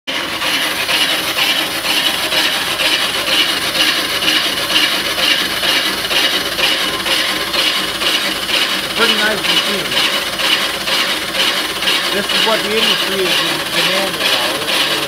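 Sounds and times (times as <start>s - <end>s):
brake lathe scraping rotor: 0.1s - 15.0s.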